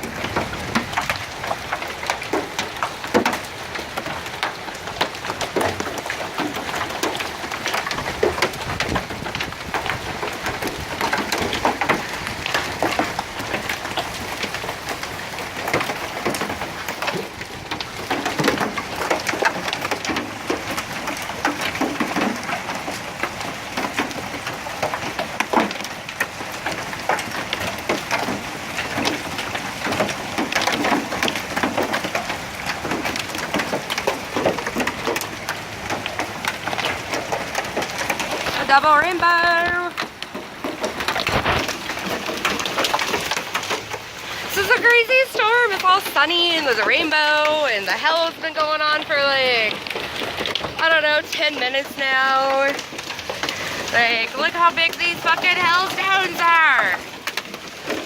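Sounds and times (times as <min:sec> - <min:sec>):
hail clattering on hard surfaces: 0:00.0 - 0:58.0.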